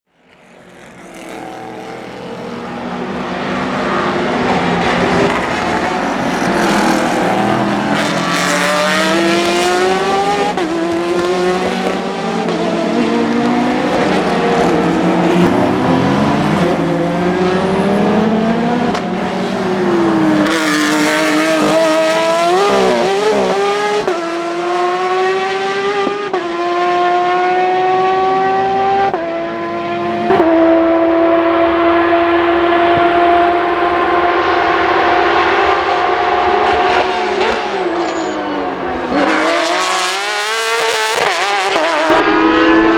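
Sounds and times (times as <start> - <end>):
race car engines revving: 0.2 - 42.9.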